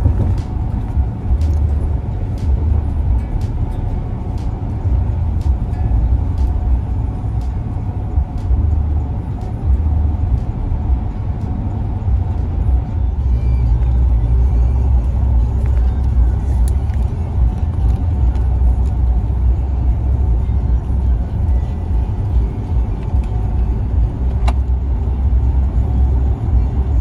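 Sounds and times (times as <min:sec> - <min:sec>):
truck rumble inside cab: 0:00.0 - 0:27.0.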